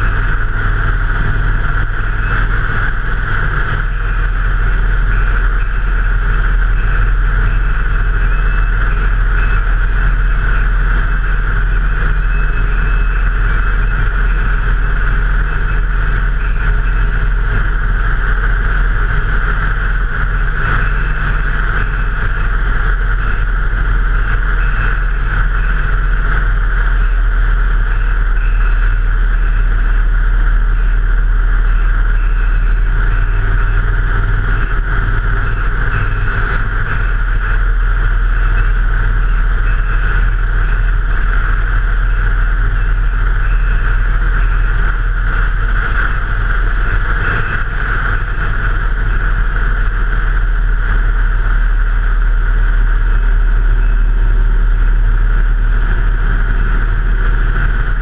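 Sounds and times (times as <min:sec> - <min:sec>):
vehicle engine running: 0:00.0 - 0:58.0
wind and road noise: 0:00.0 - 0:58.0.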